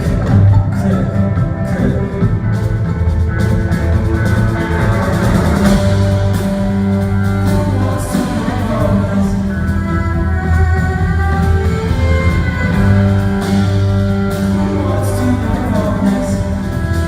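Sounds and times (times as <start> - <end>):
live rock band music: 0.0 - 17.0
steady bass line: 0.0 - 17.0.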